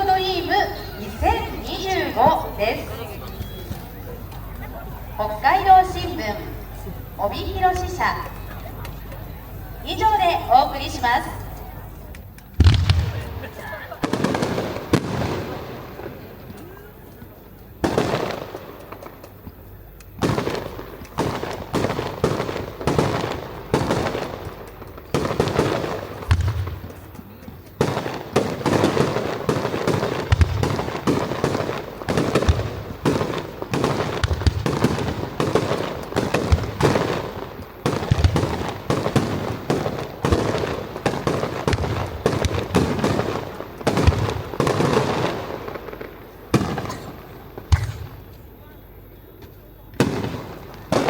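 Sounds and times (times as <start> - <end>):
deep fireworks booms: 0.0 - 49.0, 49.7 - 51.0
fireworks cracking: 0.0 - 51.0.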